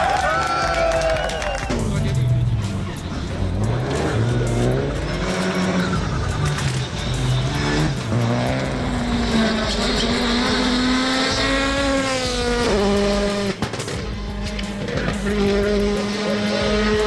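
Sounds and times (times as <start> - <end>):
rally car engine revving: 0.8 - 17.0.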